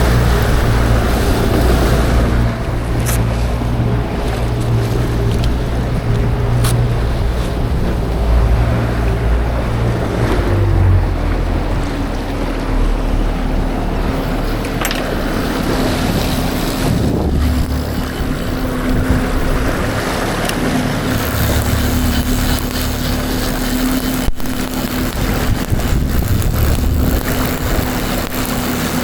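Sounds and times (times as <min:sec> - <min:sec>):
boat engine droning: 0:00.0 - 0:29.0
wind buffeting microphone: 0:00.0 - 0:29.0.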